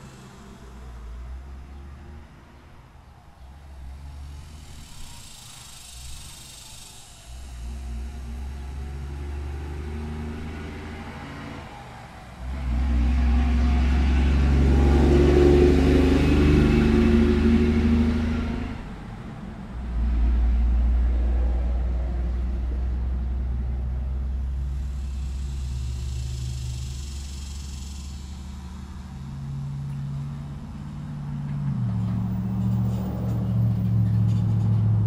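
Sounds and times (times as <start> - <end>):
faint high cicada buzz: 0.0 - 31.4
cars passing with deep rumble: 0.0 - 35.0.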